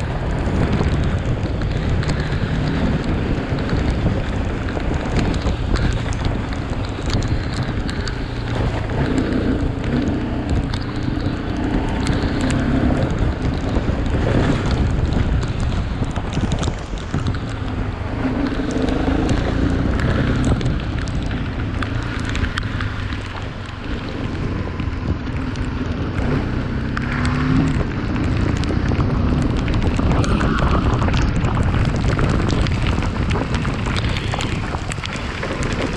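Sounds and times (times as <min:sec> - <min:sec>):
motorcycle engine: 0:00.0 - 0:35.9
wind buffeting microphone: 0:00.0 - 0:35.9.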